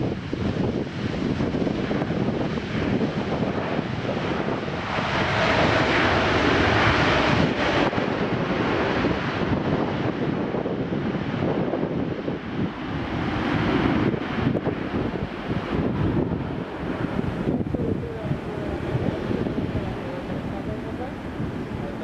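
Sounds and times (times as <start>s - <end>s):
jet engine noise: 0.0s - 22.0s
wind buffeting microphone: 0.0s - 22.0s.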